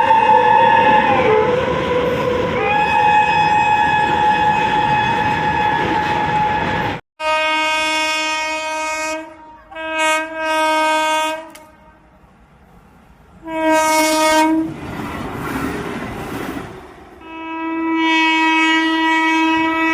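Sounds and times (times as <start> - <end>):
train rumbling and rattling by: 0.0 - 7.0, 8.4 - 19.9
locomotive horn: 0.0 - 12.2, 13.4 - 14.8, 17.2 - 19.9
lower-pitched locomotive horn blasts: 0.0 - 12.2, 13.4 - 14.8, 17.2 - 19.9.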